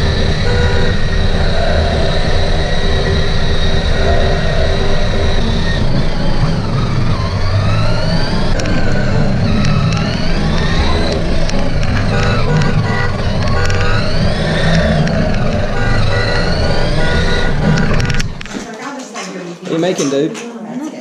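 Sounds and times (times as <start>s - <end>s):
toy car motor whine: 0.0s - 18.6s
toy car wheels rumbling on floor: 0.0s - 20.1s.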